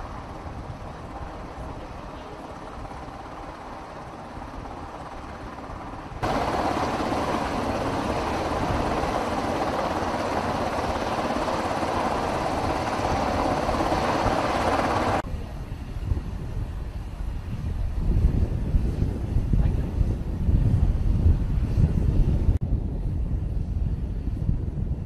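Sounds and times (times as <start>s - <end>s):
helicopter rotor and engine: 0.0s - 22.6s.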